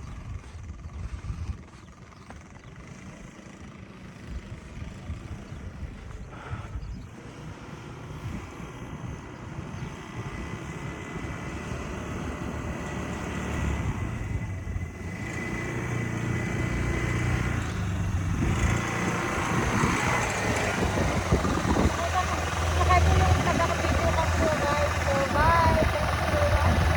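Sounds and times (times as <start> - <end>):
quad bike engine running: 0.0 - 26.9.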